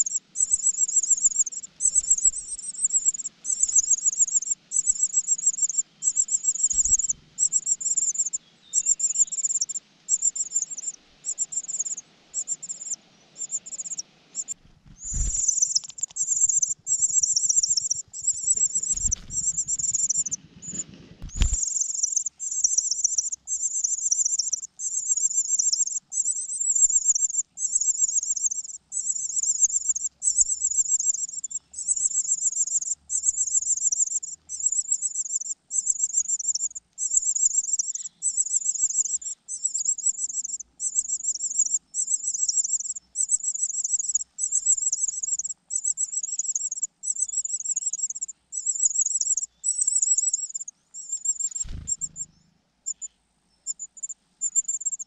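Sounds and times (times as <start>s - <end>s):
cuckoo chick begging calls: 0.0s - 53.1s.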